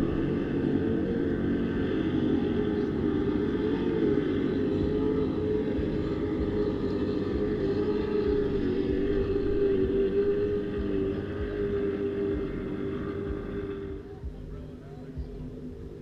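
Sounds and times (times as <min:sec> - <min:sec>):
powerboat engines running: 0:00.0 - 0:16.0.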